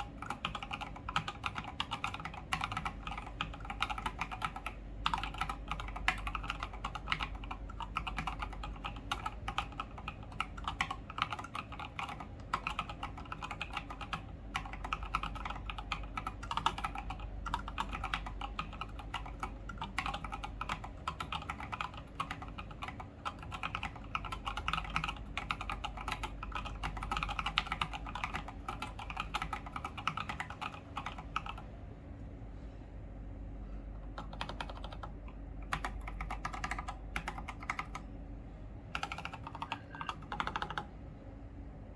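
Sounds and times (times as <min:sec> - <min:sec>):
typing on mechanical keyboard: 0:00.0 - 0:31.6, 0:34.0 - 0:38.0, 0:38.9 - 0:40.9.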